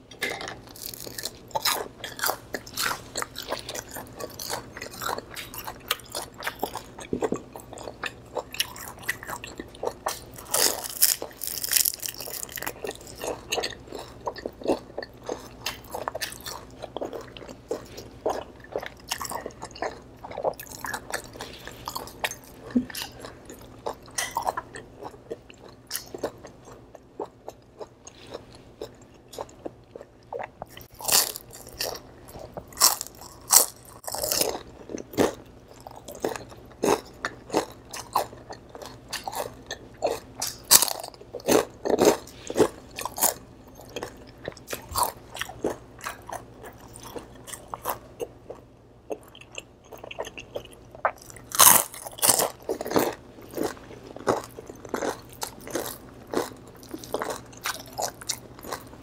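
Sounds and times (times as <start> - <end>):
person chewing crunchy food: 0.1 - 59.0.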